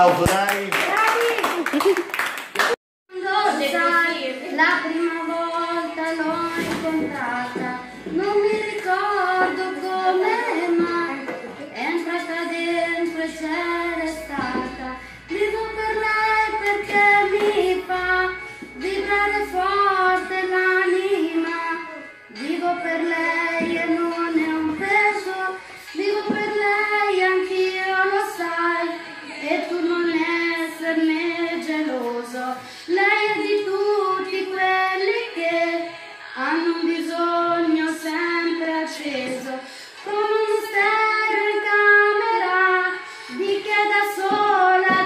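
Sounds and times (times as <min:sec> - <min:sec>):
woman singing unaccompanied: 0:03.1 - 0:45.0.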